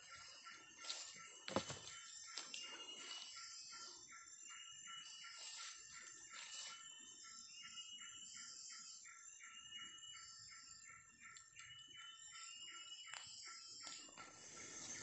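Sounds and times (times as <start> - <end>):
high-pitched ringing: 0.0 - 15.0.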